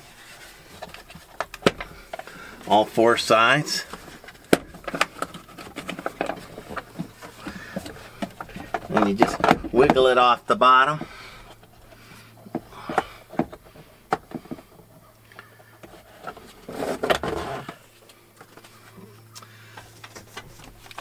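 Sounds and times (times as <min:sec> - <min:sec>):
plastic scraping rustle: 0:00.0 - 0:19.0.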